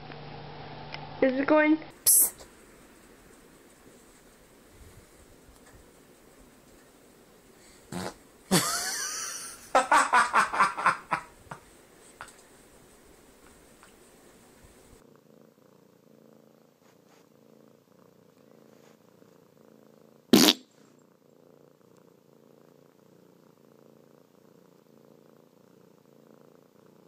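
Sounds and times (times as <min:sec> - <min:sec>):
cat purring: 0:02.4 - 0:09.8, 0:10.5 - 0:27.0.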